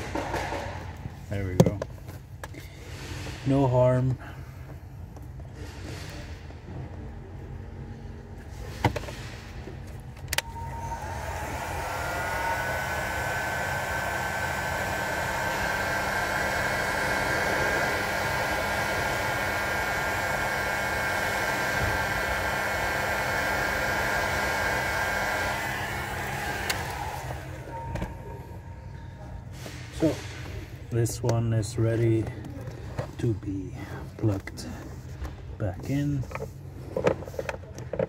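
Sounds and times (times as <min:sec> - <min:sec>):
heat gun fan whine: 0:00.0 - 0:05.2, 0:05.8 - 0:38.0.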